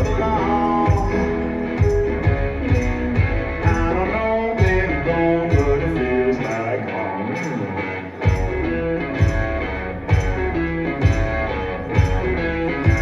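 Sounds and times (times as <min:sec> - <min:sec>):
guitar notes: 0:00.0 - 0:13.0
live band playing: 0:00.0 - 0:13.0.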